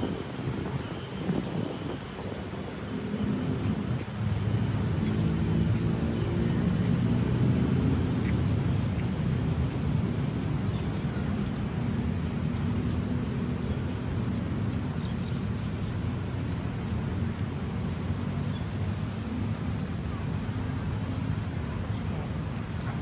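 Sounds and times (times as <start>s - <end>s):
low rumble of traffic: 0.0s - 23.0s.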